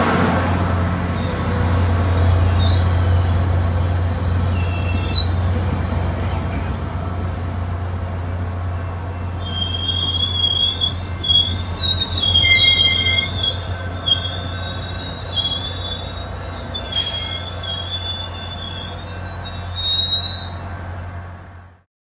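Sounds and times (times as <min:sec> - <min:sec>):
train wheels squealing on rails: 0:00.0 - 0:06.8, 0:08.8 - 0:20.9.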